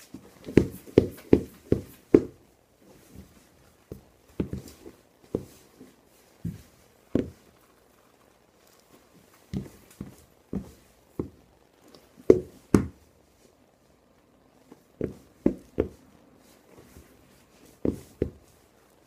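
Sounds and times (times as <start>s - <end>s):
footsteps on tile floor: 0.0s - 7.6s, 8.7s - 13.5s, 14.7s - 18.7s.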